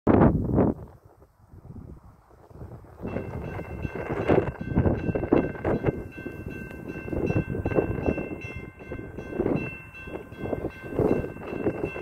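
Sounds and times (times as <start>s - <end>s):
wind on microphone: 0.1s - 12.0s
distant freight train: 0.3s - 12.0s.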